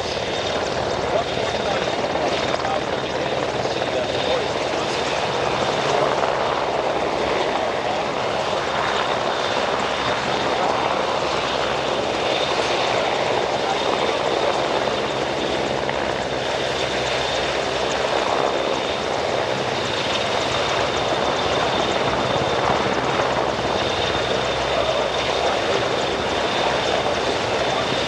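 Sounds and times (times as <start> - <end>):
helicopter running: 0.0 - 28.0
high turbine whine: 0.0 - 28.0.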